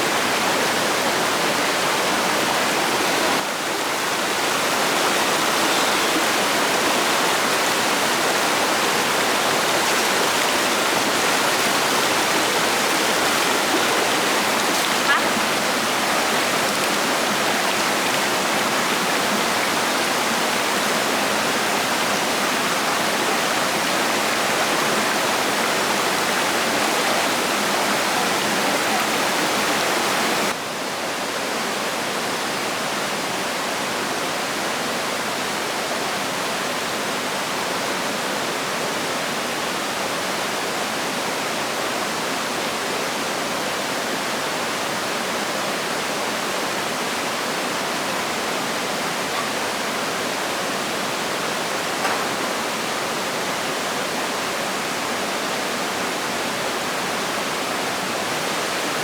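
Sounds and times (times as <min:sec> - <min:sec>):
flowing water rushing: 0:00.0 - 0:30.6, 0:31.7 - 0:59.0.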